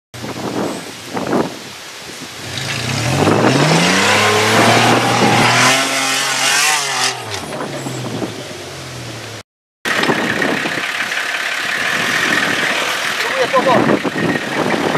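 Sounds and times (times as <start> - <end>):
diesel engine revving: 2.4 - 14.9.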